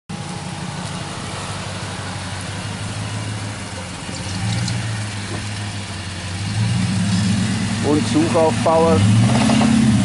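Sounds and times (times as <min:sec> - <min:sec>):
pickup truck engine at low revs: 0:00.1 - 0:10.0.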